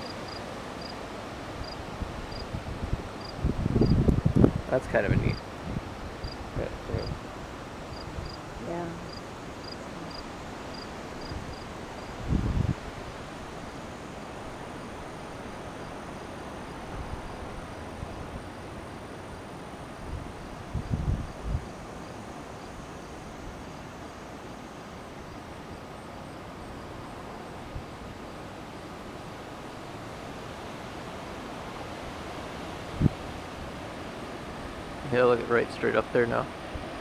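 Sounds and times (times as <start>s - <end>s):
faint insect chirping: 0.0s - 37.0s
wind: 0.0s - 37.0s.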